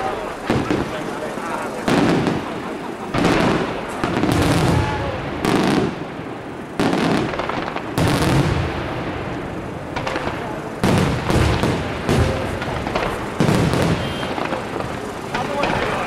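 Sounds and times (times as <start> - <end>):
firework crackling: 0.0 - 16.0
firework shells bursting: 0.0 - 16.0.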